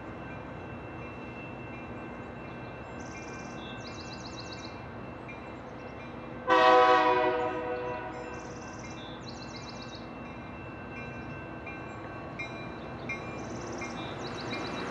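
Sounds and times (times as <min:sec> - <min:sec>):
crossing warning bells ringing: 0:00.0 - 0:14.9.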